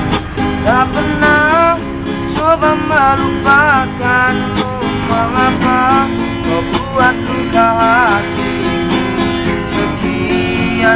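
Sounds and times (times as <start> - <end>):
acoustic guitar strumming: 0.0 - 10.9
person singing: 0.6 - 8.6, 9.4 - 10.9.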